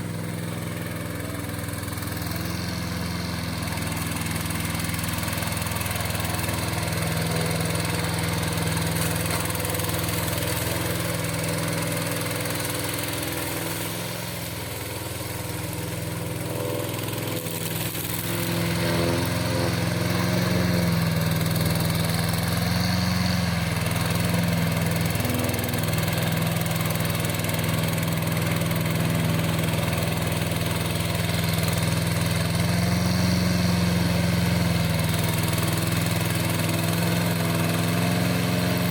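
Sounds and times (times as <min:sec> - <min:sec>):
mower engine running: 0:00.0 - 0:38.9.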